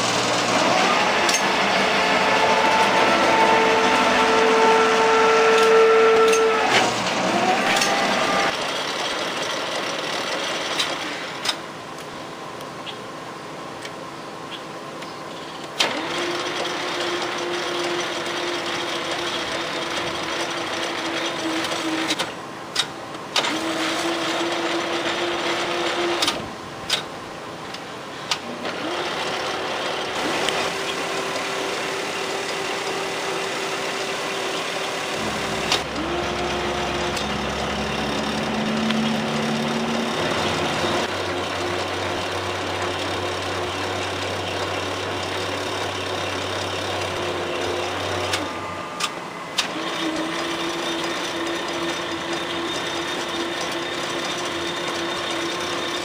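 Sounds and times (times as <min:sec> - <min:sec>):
metal planer machine hum: 0:00.0 - 0:11.4, 0:15.8 - 0:22.5, 0:23.4 - 0:26.6, 0:28.4 - 0:56.0.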